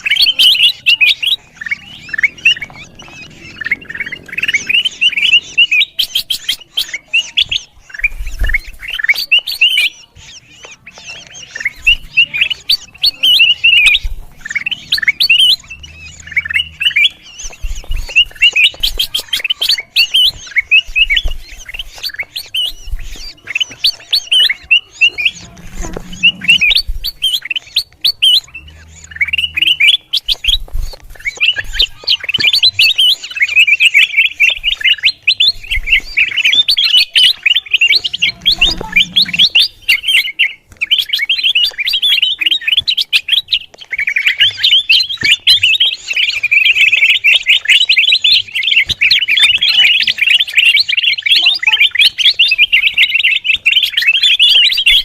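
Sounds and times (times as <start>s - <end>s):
bulbul chirping: 0.0s - 55.0s.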